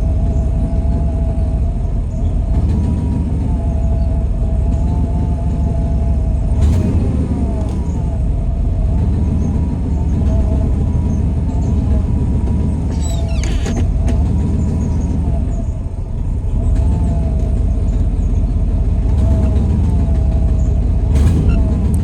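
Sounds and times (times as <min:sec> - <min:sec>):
truck engine rumble: 0:00.0 - 0:22.0.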